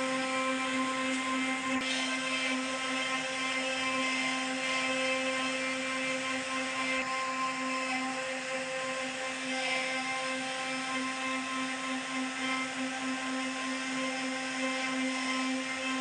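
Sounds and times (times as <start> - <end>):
router spindle whining while carving wood: 0.0 - 16.0.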